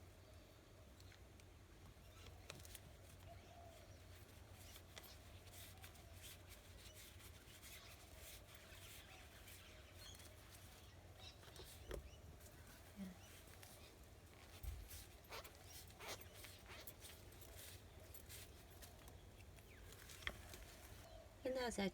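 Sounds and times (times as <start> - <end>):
faint rubbing: 3.2 - 21.1.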